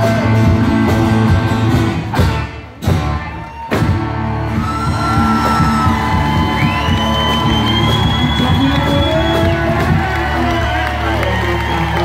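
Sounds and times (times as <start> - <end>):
country-rock band playing: 0.0 - 12.0.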